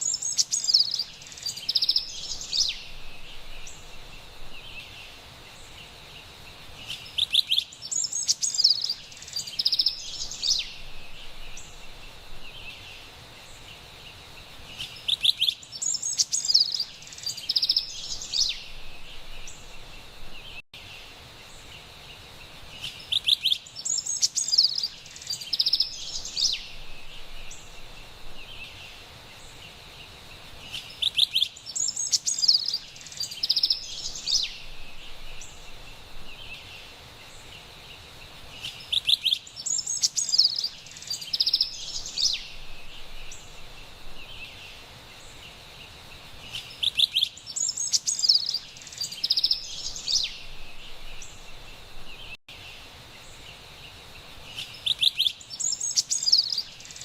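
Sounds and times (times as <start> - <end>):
wren singing: 0.0 - 13.8, 14.7 - 20.6, 22.7 - 37.7, 38.5 - 45.6, 46.4 - 52.6, 53.2 - 57.0
faint forest background hiss: 0.0 - 57.0.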